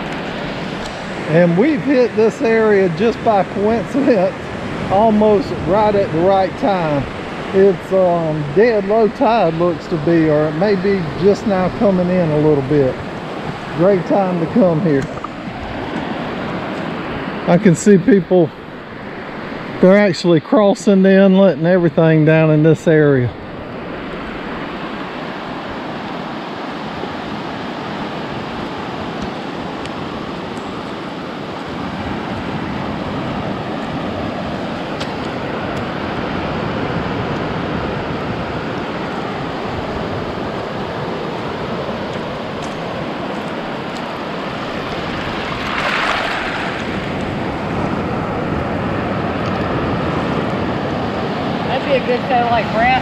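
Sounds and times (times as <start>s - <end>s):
small waves washing in: 0.0s - 20.0s, 23.3s - 53.0s.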